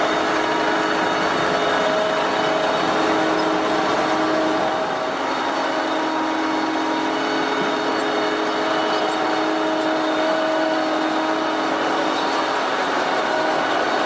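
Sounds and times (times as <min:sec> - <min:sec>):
harvesting machinery running: 0:00.0 - 0:14.0.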